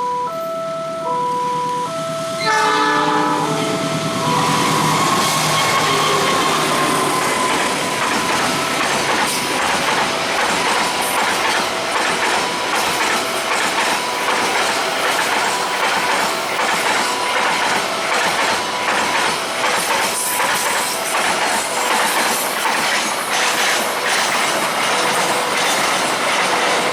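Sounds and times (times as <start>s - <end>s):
train wheels clattering: 3.8s - 26.9s.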